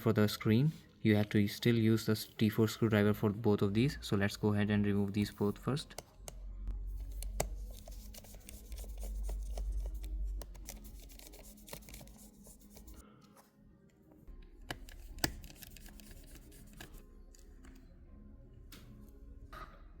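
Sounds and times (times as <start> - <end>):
faint background music: 0.0 - 20.0.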